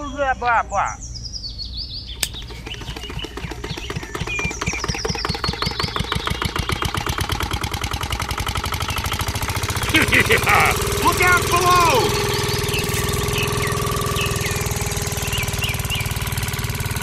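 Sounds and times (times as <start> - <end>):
small engine chugging: 2.2 - 17.0.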